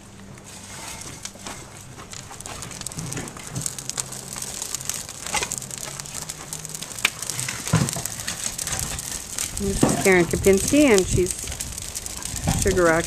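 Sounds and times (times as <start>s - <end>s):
wood fire crackling: 0.0s - 13.0s
wood knocking onto fire: 0.0s - 13.0s.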